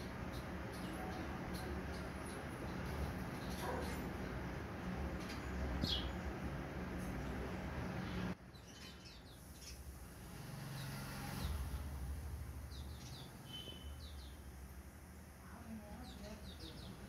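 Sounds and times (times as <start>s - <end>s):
sparrows chirping: 0.0s - 14.8s, 15.5s - 17.0s.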